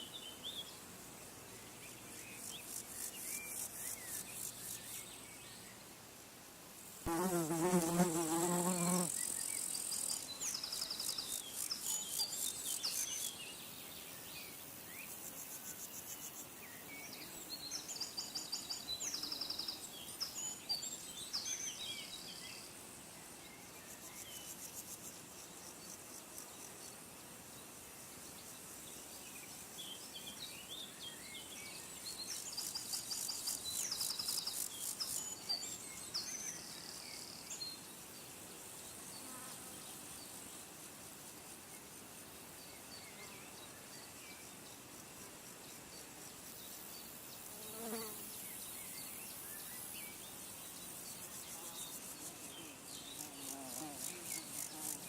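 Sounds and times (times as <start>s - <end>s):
faint outdoor background: 0.0s - 55.0s.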